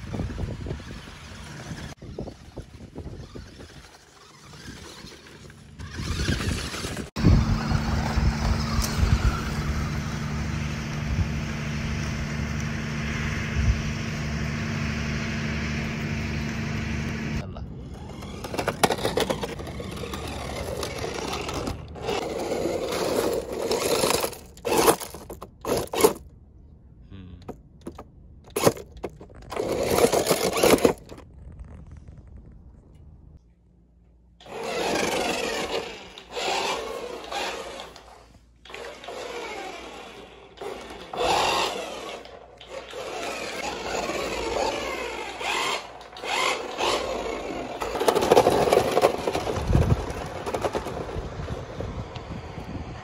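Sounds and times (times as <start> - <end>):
toy truck motor hum: 0.1 - 26.2, 27.1 - 31.1, 34.4 - 52.4.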